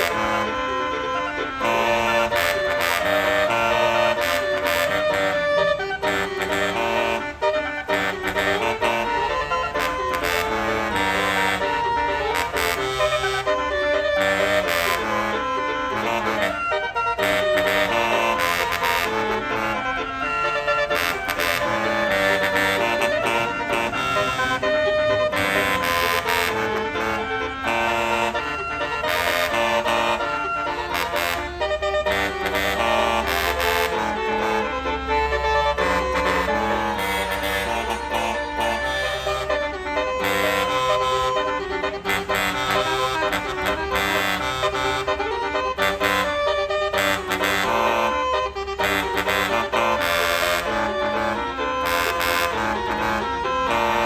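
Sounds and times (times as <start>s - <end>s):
music with reedy melody and beat: 0.0s - 54.0s.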